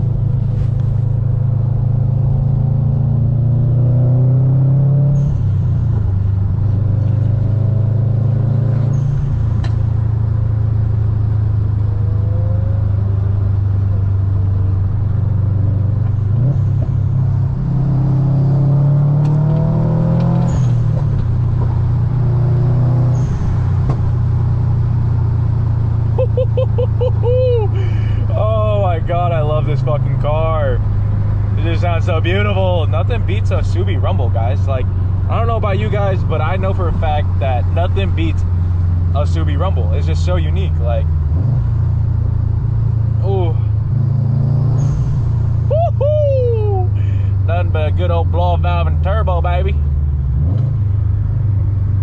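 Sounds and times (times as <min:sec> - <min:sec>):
car engine pulling through gears: 0:00.0 - 0:52.0.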